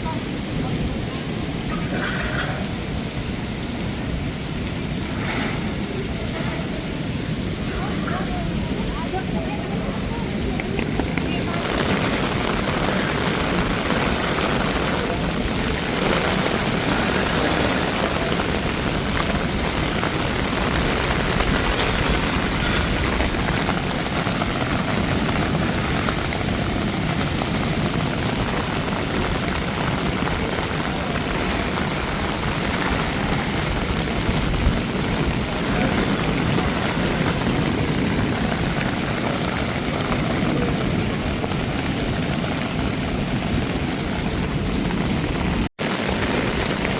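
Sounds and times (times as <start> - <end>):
heavy rain on hard surfaces: 0.0 - 46.9.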